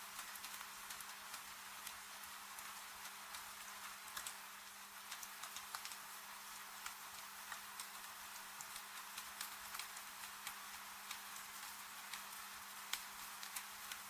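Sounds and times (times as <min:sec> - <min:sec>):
rain hissing: 0:00.0 - 0:14.0
wood fire crackling: 0:00.0 - 0:14.0.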